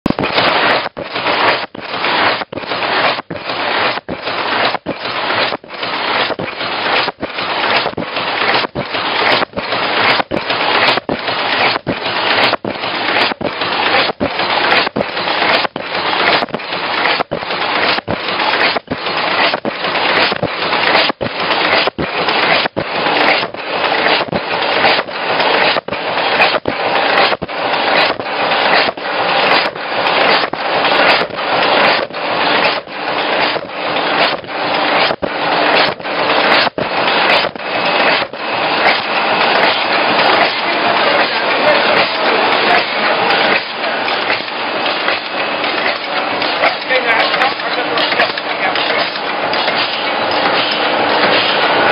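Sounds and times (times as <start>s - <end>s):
paper cup machine running: 0.0s - 51.9s.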